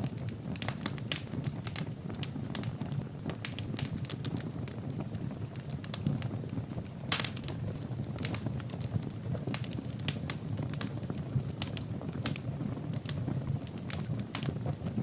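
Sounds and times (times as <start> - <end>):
low rush of flame: 0.0 - 15.0
wood fire crackling and popping: 0.0 - 15.0.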